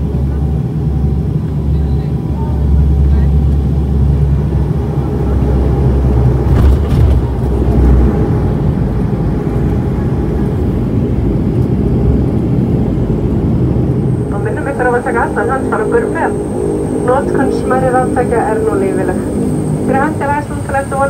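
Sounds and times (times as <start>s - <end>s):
turboprop cabin rumble: 0.0s - 21.0s.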